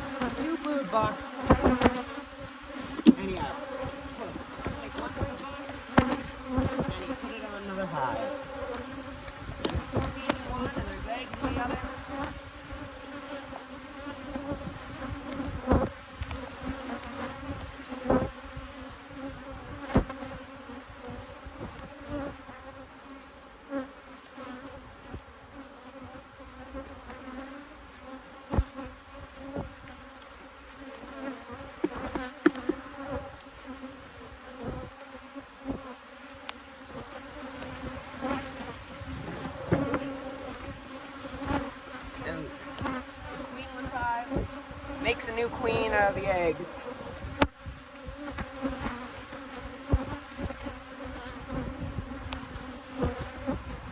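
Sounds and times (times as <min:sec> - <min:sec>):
honey bees buzzing: 0:00.0 - 0:53.9.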